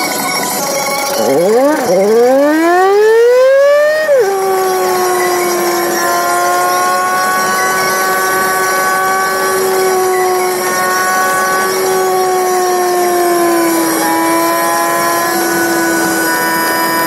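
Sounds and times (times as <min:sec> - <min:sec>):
car running mechanical whine: 0:00.0 - 0:17.0.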